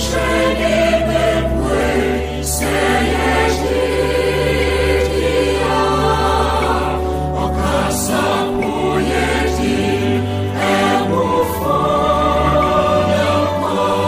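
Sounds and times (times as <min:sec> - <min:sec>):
mixed choir singing gospel: 0:00.0 - 0:14.0.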